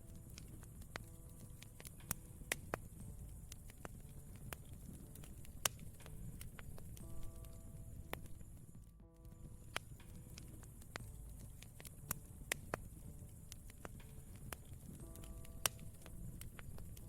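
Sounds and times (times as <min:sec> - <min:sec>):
campfire crackling and popping: 0:00.0 - 0:17.0
low rumble of burning wood: 0:00.0 - 0:17.0
soft piano notes: 0:00.0 - 0:17.0.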